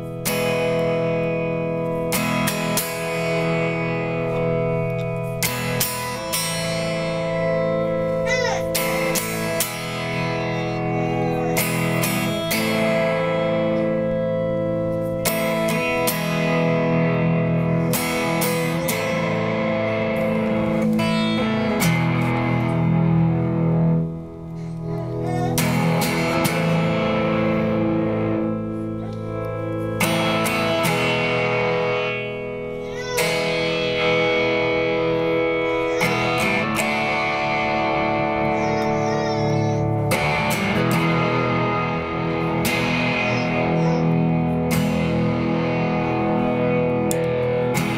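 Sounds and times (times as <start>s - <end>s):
electric guitar chords ringing: 0.0s - 47.9s.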